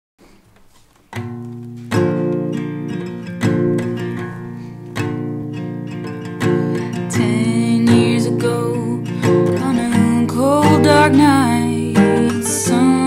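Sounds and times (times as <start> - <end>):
acoustic guitar strumming: 0.6 - 13.0.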